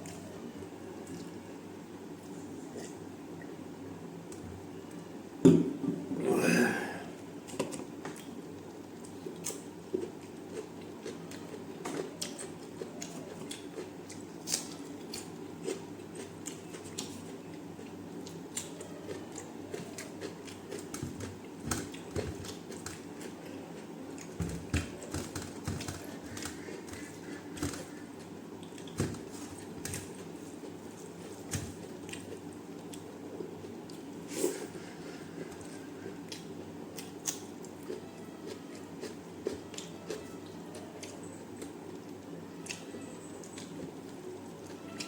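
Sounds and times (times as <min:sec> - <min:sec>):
person chewing food: 0:06.2 - 0:45.0.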